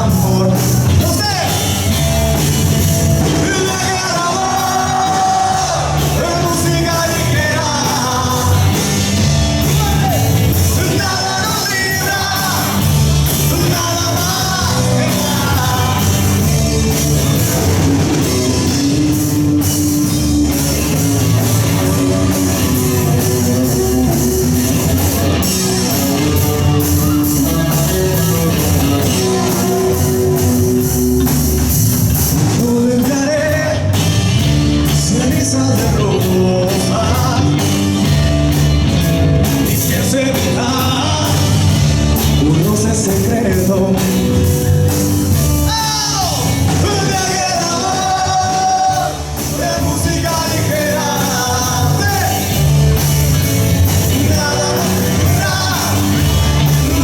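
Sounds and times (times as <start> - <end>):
bass guitar: 0.0 - 57.0
drums: 0.0 - 57.0
electric guitar: 0.0 - 57.0
person singing: 3.2 - 34.1, 34.8 - 37.8, 39.6 - 44.6, 45.6 - 53.0, 53.8 - 57.0.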